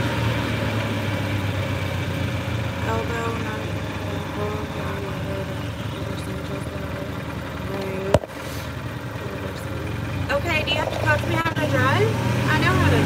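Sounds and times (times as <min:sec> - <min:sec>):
golf cart driving: 0:00.0 - 0:13.0.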